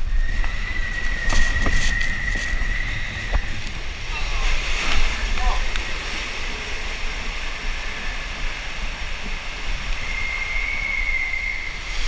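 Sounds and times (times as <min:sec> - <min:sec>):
rushing water: 0:00.0 - 0:12.0
wind noise: 0:00.0 - 0:12.0.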